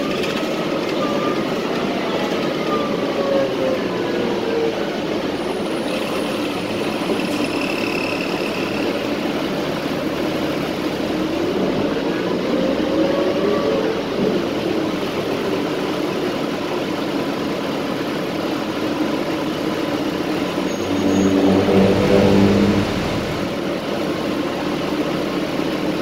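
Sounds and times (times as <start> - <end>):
bus engine whine: 0.0 - 26.0.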